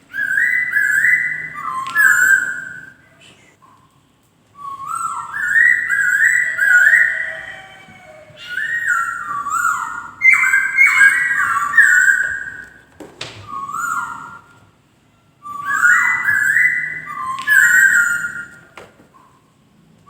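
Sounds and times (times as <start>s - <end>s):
bird singing whistled phrases: 0.0s - 3.9s, 4.6s - 14.6s, 15.4s - 19.4s.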